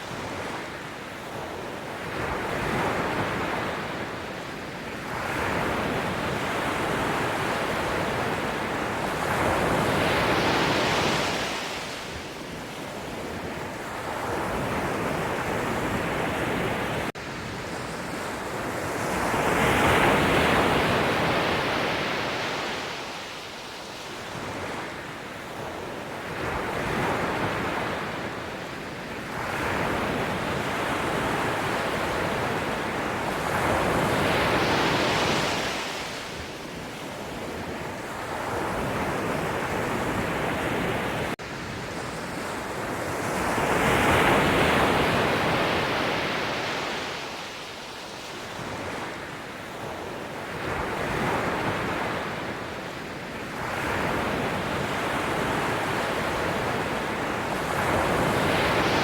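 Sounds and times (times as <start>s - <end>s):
sea waves breaking on shore: 0.0s - 59.0s.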